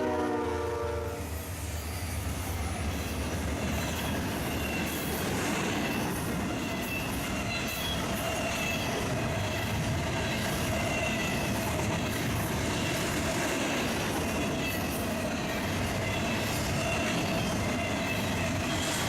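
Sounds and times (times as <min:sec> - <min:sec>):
freight train cars rumbling: 0:00.0 - 0:19.0
steel wheels squealing: 0:01.3 - 0:19.0.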